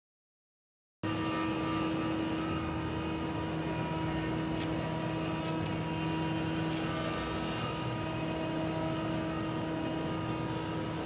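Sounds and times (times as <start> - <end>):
power tool motor humming: 1.0 - 11.0.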